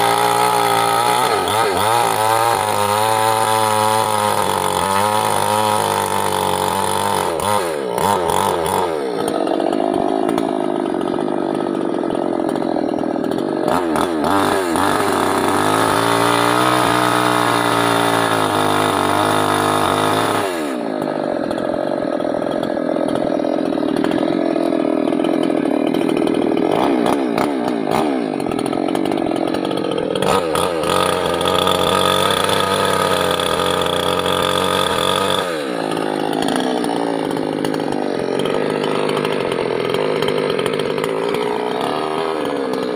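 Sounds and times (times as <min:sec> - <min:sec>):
petrol chainsaw cutting wood: 0:00.0 - 0:42.9.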